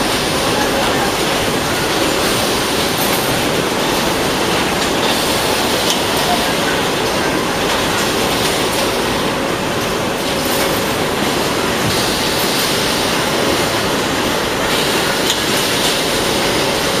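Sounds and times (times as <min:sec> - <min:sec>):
packing line machine din: 0:00.0 - 0:17.0.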